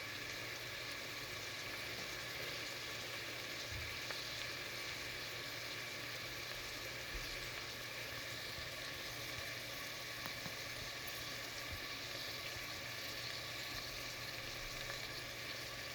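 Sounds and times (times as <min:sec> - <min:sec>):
food sizzling in a pan: 0:00.0 - 0:15.9.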